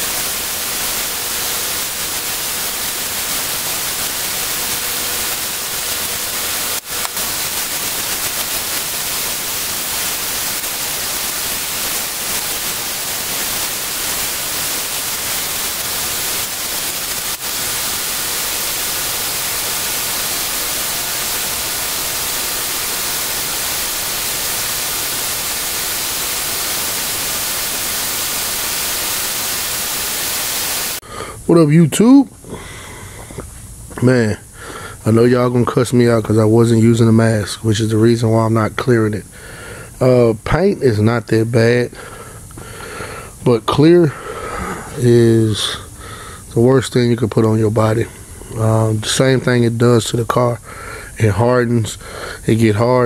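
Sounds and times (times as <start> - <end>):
loud steady hiss: 0.0 - 53.0.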